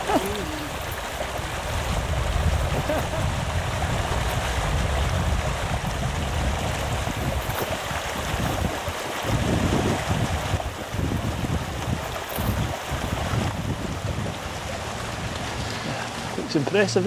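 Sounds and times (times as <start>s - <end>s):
stream rushing over stones: 0.0s - 17.0s
wind rumbling on microphone: 0.0s - 17.0s.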